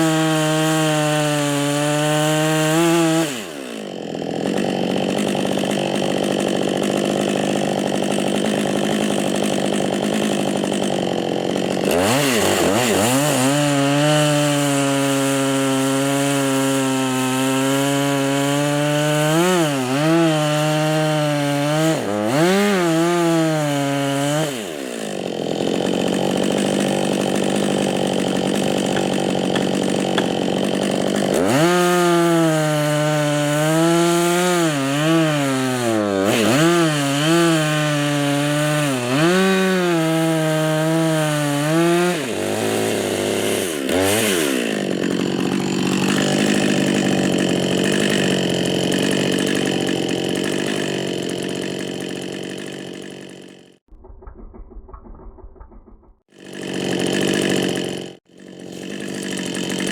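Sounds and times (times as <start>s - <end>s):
chainsaw cutting wood: 0.0s - 59.9s
chainsaw idling: 0.0s - 59.9s.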